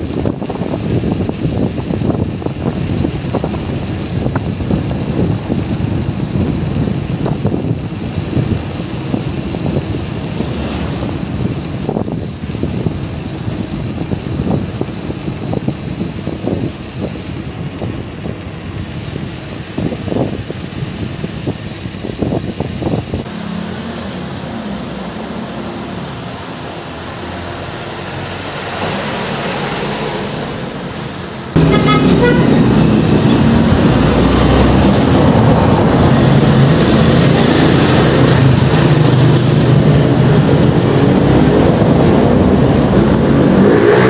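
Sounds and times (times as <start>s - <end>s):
wind buffeting microphone: 0.0s - 23.3s, 31.6s - 44.0s
engine-like hum: 0.0s - 44.0s
road and traffic noise: 0.0s - 44.0s.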